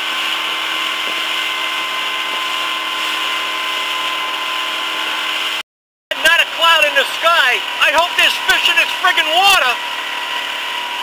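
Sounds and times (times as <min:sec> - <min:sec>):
outboard motor whine: 0:00.0 - 0:11.0.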